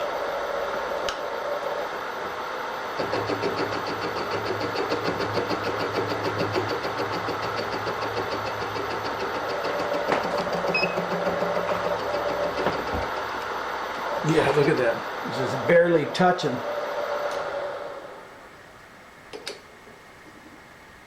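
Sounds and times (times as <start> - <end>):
milling machine spindle hum: 0.0 - 19.3.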